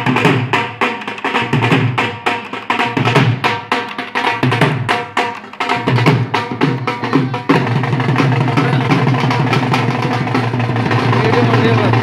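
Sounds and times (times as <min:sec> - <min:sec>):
dhol drums beating: 0:00.0 - 0:12.0.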